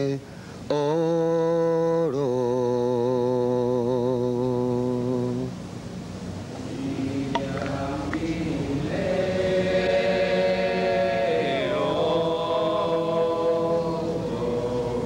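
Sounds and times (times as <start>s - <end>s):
religious chant with held notes: 0.0s - 5.6s, 6.5s - 15.0s.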